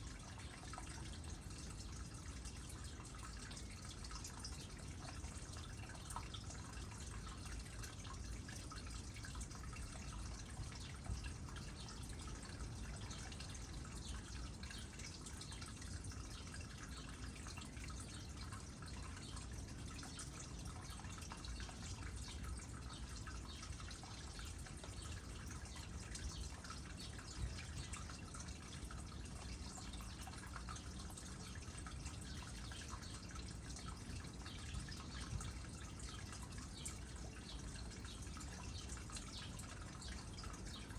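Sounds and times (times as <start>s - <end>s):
patter of fine drips: 0.0s - 40.9s
water trickling into a pond: 0.0s - 40.9s.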